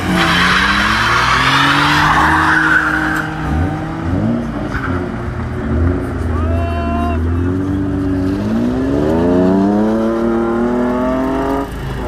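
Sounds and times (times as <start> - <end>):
car engines revving high: 0.0 - 12.0.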